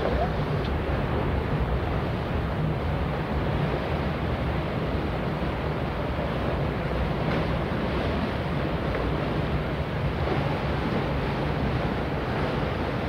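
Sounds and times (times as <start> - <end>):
churning water: 0.0 - 13.0
ship engine low rumble: 0.0 - 13.0.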